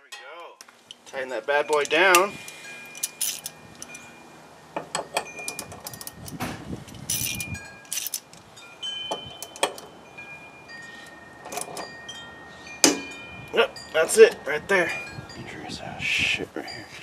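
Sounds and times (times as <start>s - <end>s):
metal hand tools clinking: 0.0s - 4.2s, 4.8s - 15.1s.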